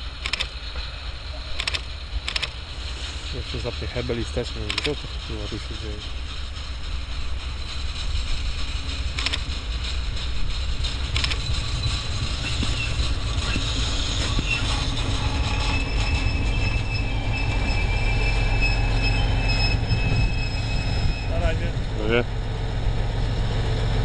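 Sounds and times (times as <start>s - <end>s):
railbus rumbling on rails: 0.0s - 24.0s
high brake squeal: 0.3s - 21.7s.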